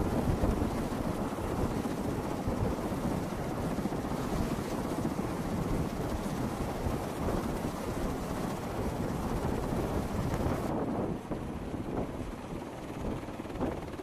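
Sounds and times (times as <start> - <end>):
helicopter rotors running: 0.0 - 14.0.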